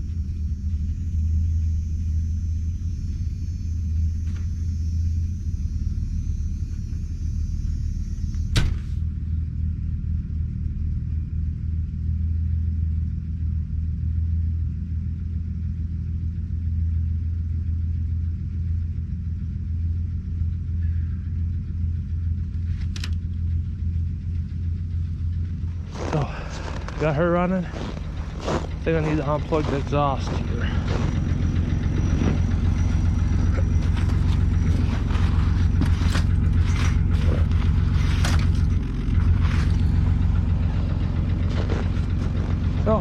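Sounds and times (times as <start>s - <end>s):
pickup engine idling: 0.0s - 43.0s.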